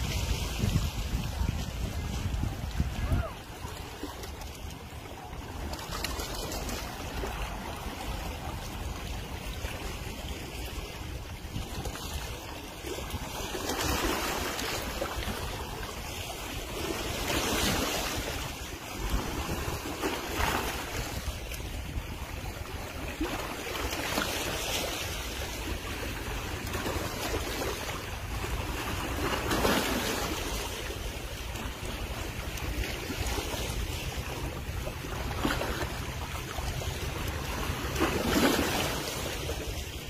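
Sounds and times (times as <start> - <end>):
sea water washing and splashing: 0.0 - 40.0
wind rumbling on microphone: 0.0 - 40.0.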